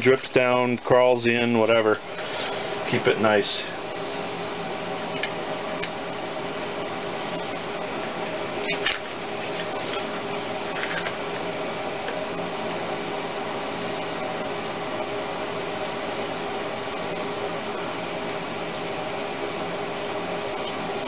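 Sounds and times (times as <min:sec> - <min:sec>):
background hiss and hum: 0:00.0 - 0:21.0.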